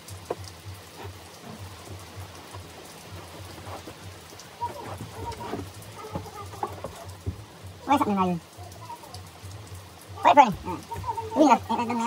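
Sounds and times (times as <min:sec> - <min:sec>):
faint music beat: 0:00.0 - 0:12.0
rain pattering: 0:00.0 - 0:12.0.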